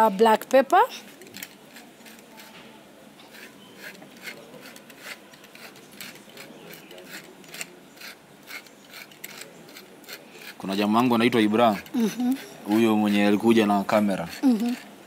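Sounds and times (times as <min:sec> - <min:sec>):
pepper mill grinding: 0:01.0 - 0:02.5, 0:03.3 - 0:13.4, 0:14.2 - 0:14.9.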